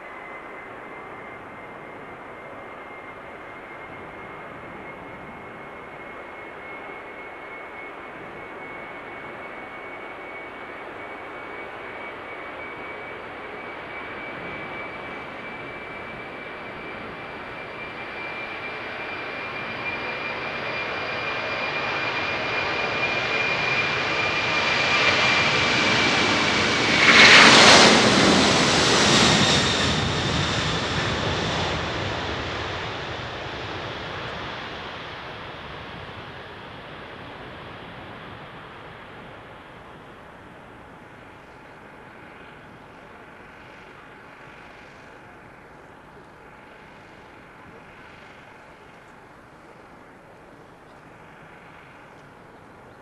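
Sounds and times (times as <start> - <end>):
jet engines roaring at takeoff: 0.0 - 53.0.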